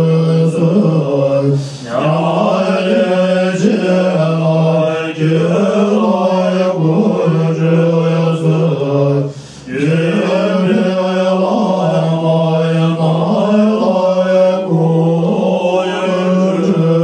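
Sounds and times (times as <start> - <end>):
monks chanting low drone: 0.0 - 17.0.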